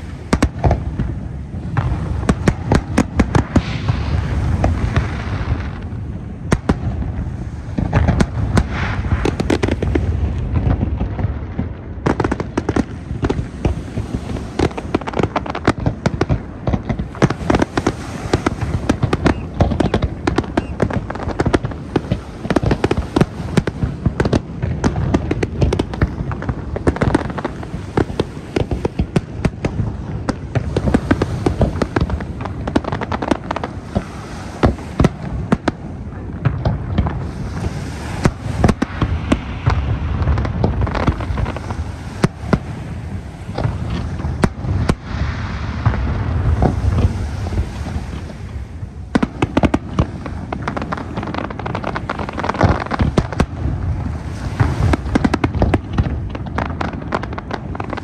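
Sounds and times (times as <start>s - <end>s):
fireworks bangs and crackling: 0.0s - 58.0s
low rumble of booms: 0.0s - 58.0s.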